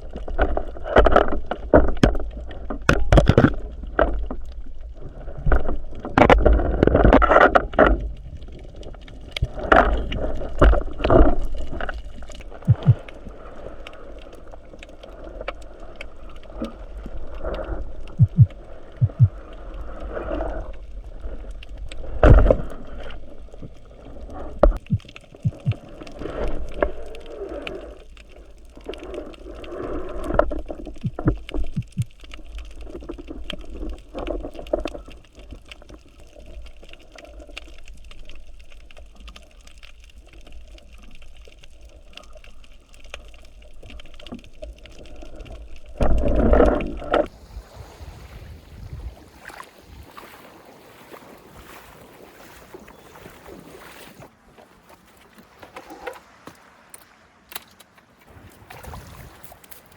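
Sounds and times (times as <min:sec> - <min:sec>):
muffled water sloshing and gurgling: 0:00.0 - 0:59.9.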